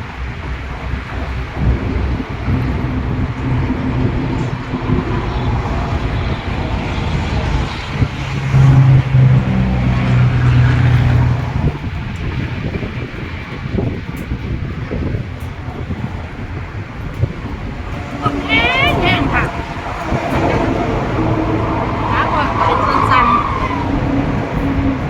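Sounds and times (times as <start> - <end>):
vehicle passing by: 0.8 - 25.0.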